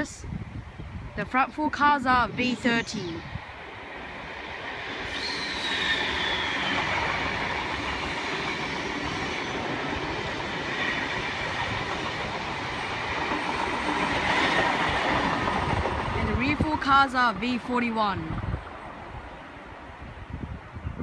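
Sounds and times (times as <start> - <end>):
train wheels rumbling on rail: 2.4 - 21.0.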